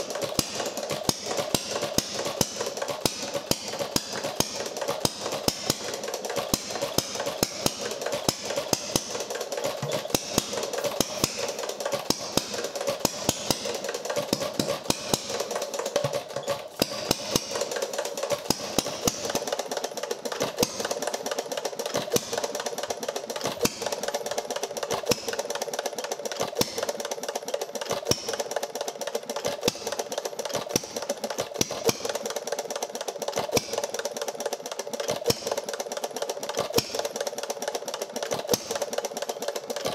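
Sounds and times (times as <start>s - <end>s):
gas engine running: 0.0s - 39.9s.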